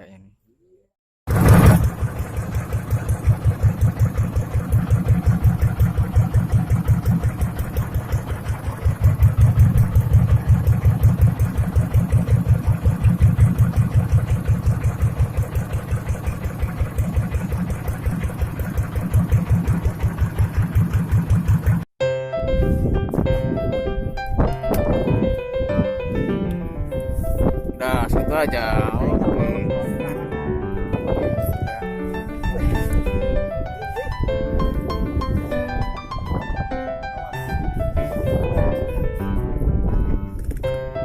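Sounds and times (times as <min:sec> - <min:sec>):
boat engine running: 0:01.3 - 0:21.9, 0:22.6 - 0:41.0.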